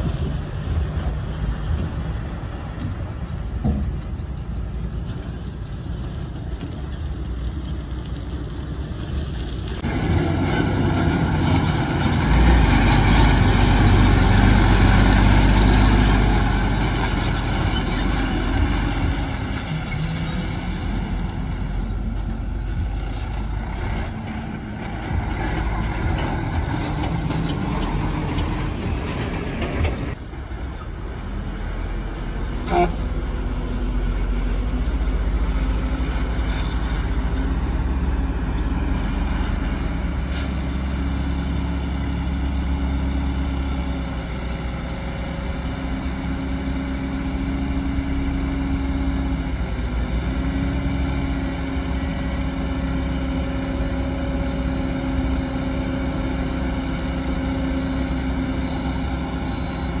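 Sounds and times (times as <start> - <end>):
diesel truck engine running: 0.0 - 60.0.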